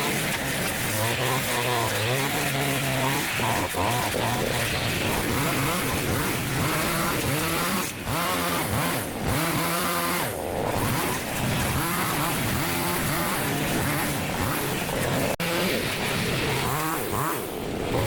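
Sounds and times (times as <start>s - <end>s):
small petrol engine revving: 0.0s - 18.0s.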